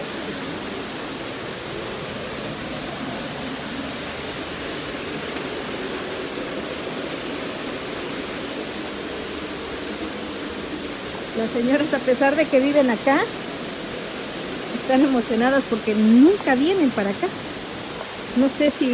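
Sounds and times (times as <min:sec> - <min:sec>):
stream water rushing: 0:00.0 - 0:18.9.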